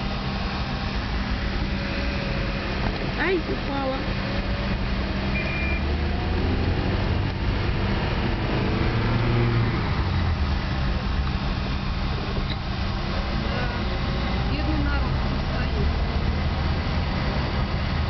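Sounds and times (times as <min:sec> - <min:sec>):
car engine hum: 0:00.0 - 0:18.0
road noise inside car: 0:00.0 - 0:18.0.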